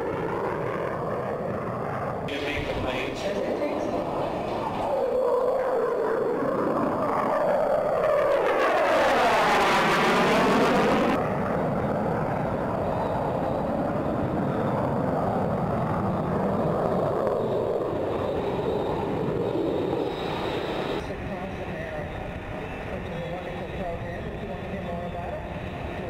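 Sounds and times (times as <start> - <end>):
jet flying past: 0.0 - 26.0.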